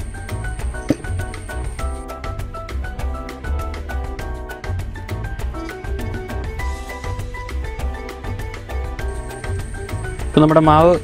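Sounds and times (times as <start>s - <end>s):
upbeat music with pulsing bass: 0.0s - 11.0s.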